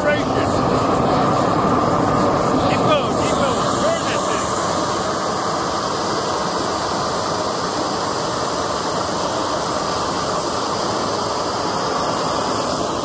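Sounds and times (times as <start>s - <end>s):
propane torch rushing hiss: 0.0s - 13.0s.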